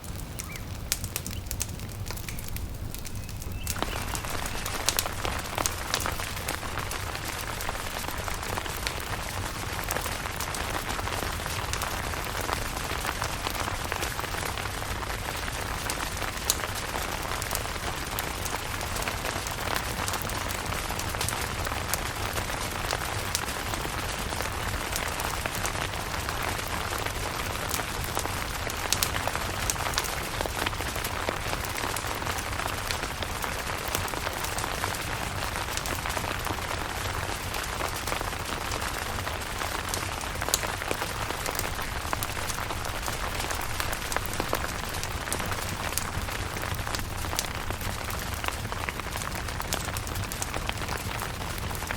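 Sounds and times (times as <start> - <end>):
rain on a tent: 0.0 - 51.9.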